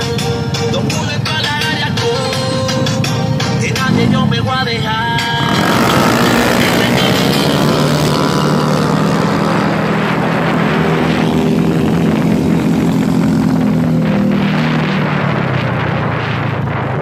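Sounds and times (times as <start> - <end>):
motorcycle engines droning: 0.0 - 17.0
rushing wind noise: 0.0 - 17.0.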